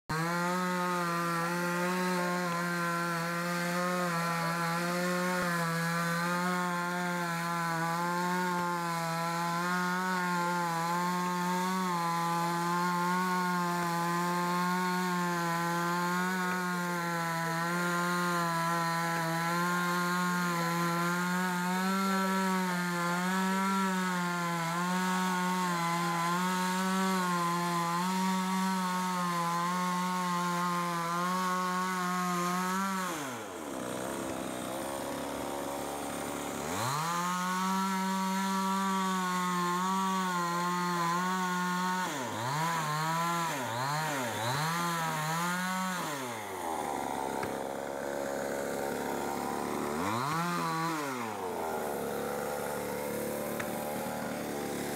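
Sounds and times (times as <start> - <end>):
chainsaw running at high revs: 0.0 - 54.9.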